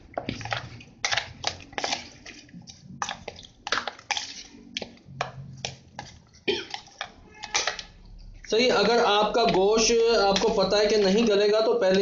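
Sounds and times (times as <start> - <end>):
wet smacks of meat mixed by hand: 0.0 - 12.0.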